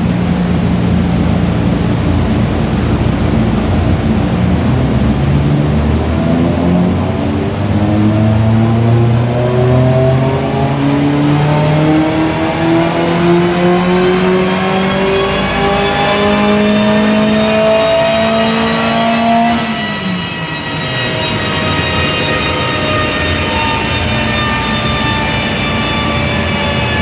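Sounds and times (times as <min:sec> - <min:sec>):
engine revving under load: 0:00.0 - 0:27.0.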